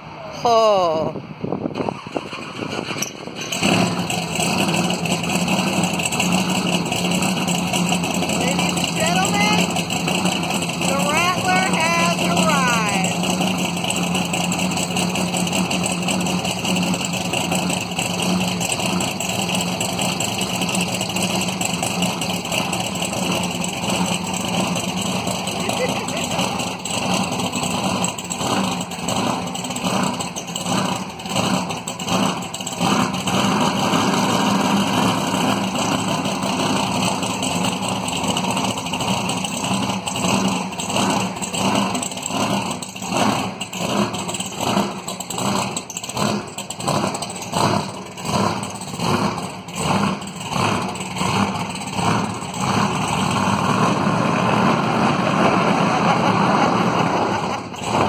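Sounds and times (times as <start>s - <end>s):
engine running with heavy lope: 0.0s - 58.0s.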